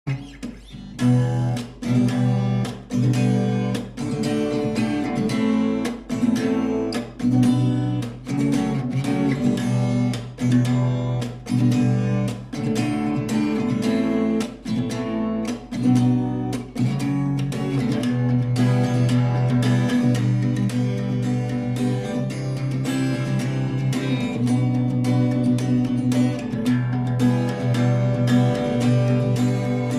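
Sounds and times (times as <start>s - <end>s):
acoustic guitar strumming: 0.1s - 29.9s.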